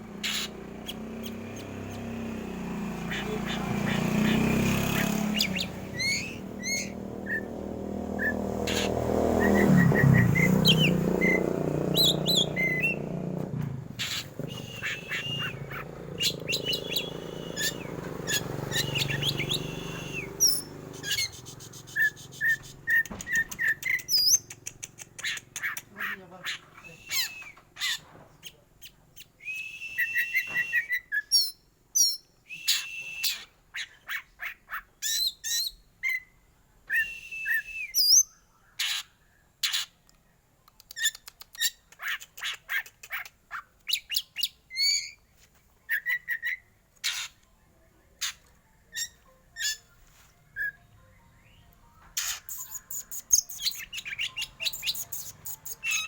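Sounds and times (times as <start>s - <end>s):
bird singing: 0.0s - 40.0s, 43.5s - 45.2s, 45.8s - 47.4s, 48.2s - 56.0s.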